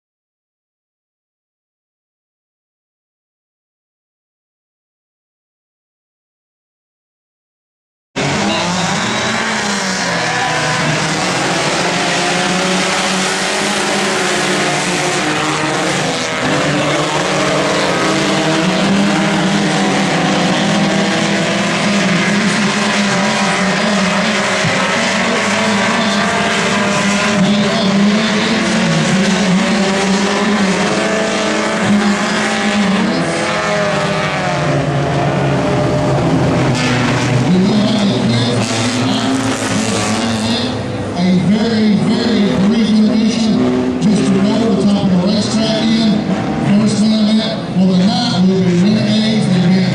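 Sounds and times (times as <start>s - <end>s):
race car engines revving: 8.2s - 49.9s.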